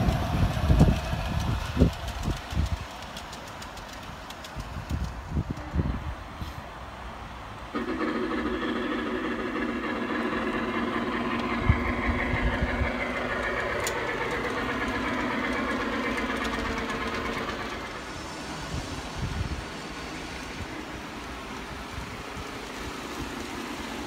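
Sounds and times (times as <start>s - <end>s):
model steam locomotive humming: 0.0s - 24.0s.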